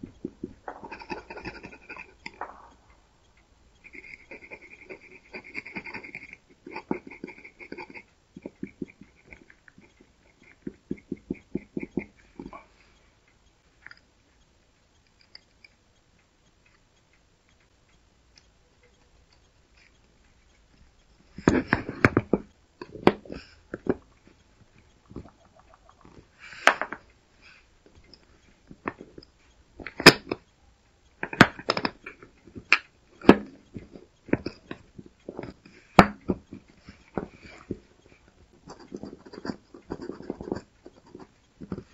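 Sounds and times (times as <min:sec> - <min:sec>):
sharp clicks and knocks: 0:00.0 - 0:27.2, 0:27.8 - 0:41.9.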